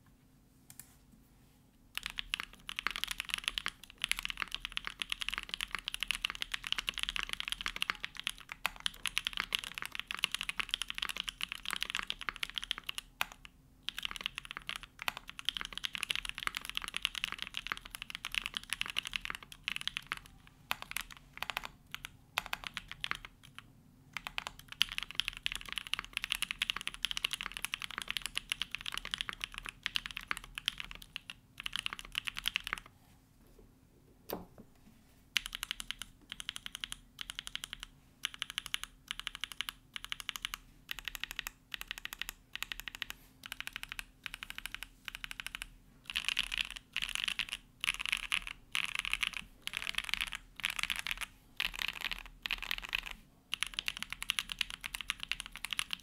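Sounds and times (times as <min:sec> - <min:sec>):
mechanical keyboard typing: 0:02.0 - 0:32.9, 0:35.4 - 0:56.0.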